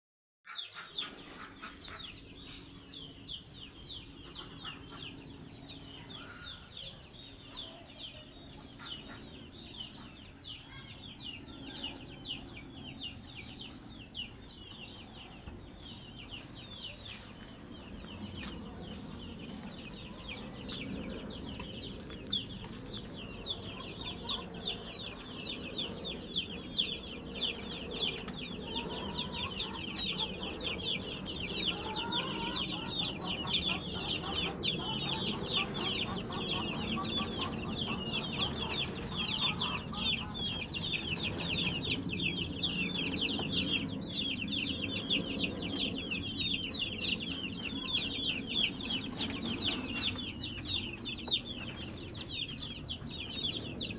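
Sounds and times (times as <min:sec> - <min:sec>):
chicks peeping: 0:00.5 - 0:53.9.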